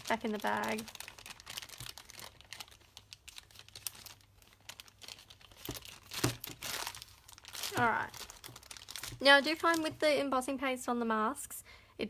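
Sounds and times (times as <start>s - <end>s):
bag crinkling and rustling: 0.0s - 10.0s.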